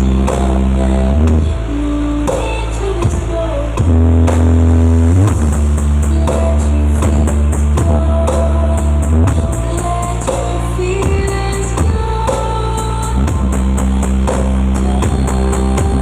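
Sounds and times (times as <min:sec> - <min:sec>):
drums: 0:00.0 - 0:16.0
heavy sustained bass notes: 0:00.0 - 0:16.0
loud rock music: 0:00.0 - 0:16.0.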